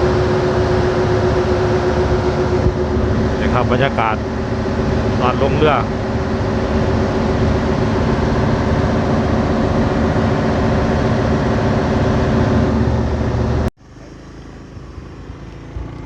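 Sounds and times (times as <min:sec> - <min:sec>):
ferry engine humming: 0:00.0 - 0:16.0.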